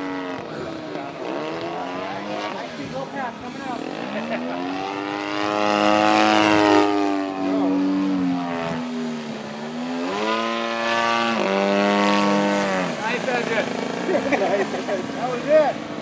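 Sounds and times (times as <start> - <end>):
model plane engine buzzing: 0.0 - 16.0.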